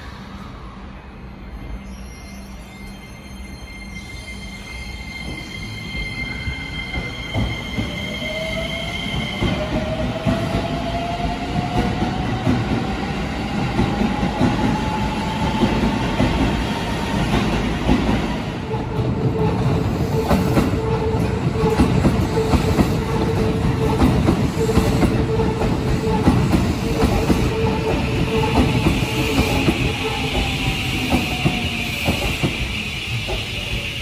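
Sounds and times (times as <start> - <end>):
second train steady tone: 0.0 - 34.0.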